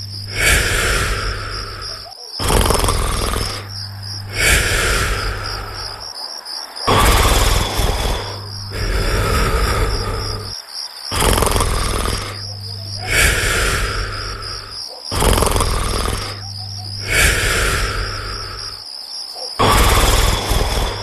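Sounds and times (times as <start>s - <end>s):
cartoon snoring: 0.0s - 6.1s, 6.8s - 18.9s, 19.6s - 21.0s
crickets chirping: 0.0s - 21.0s.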